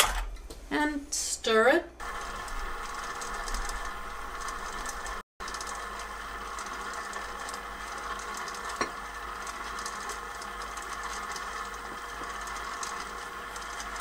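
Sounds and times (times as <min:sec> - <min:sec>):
stand mixer motor running: 0:02.0 - 0:14.0.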